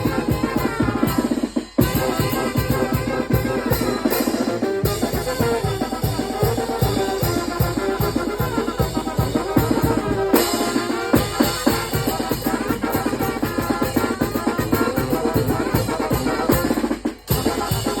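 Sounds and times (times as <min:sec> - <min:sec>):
rapid drum beat: 0:00.0 - 0:18.0
wind band playing: 0:00.0 - 0:18.0.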